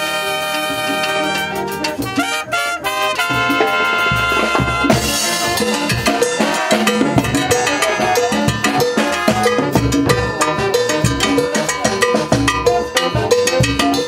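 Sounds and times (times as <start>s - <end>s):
drum kit and percussion beat: 0.0s - 14.0s
trumpet section playing: 0.0s - 14.0s.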